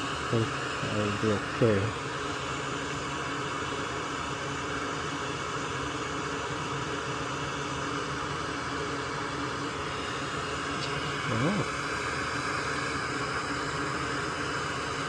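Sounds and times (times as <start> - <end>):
fan-like hiss: 0.0 - 15.0.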